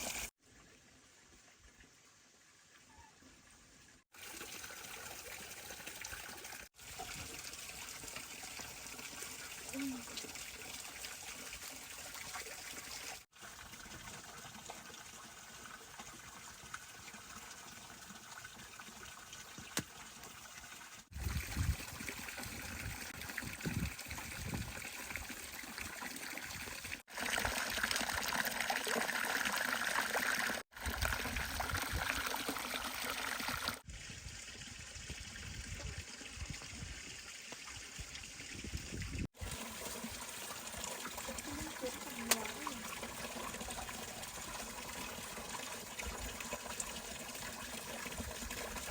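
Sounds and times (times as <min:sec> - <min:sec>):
water trickling: 0:03.8 - 0:48.9.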